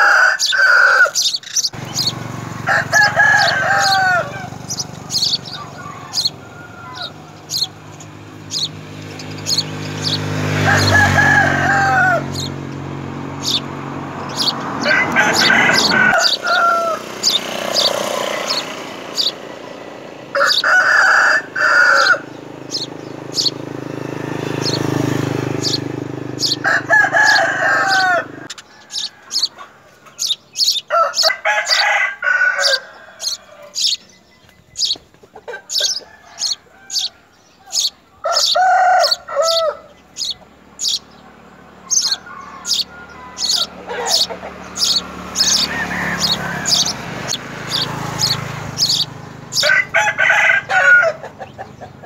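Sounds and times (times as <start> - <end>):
rooster crowing: 0.0 - 34.2, 34.8 - 52.0
sparrows chirping: 0.0 - 52.0.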